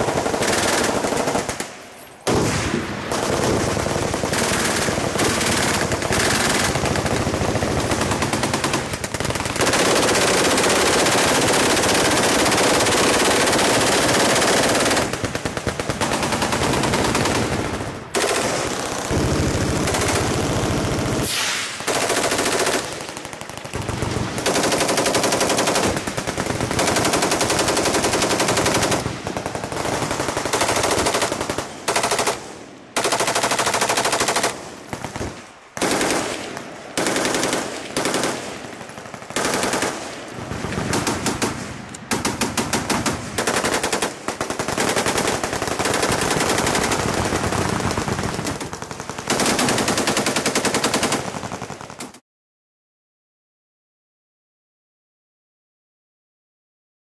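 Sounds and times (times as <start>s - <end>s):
machine-gun fire bursts: 0.0s - 1.7s, 2.3s - 52.2s.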